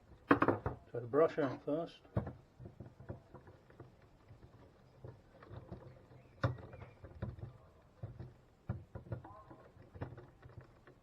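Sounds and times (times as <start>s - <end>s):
plastic clicks and knocks: 0.2s - 0.8s, 2.1s - 11.0s.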